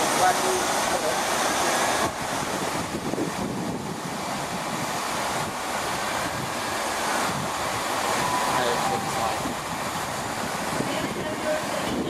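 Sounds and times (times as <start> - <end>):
diesel train rumble: 0.0 - 12.0
wind on microphone: 1.1 - 12.0.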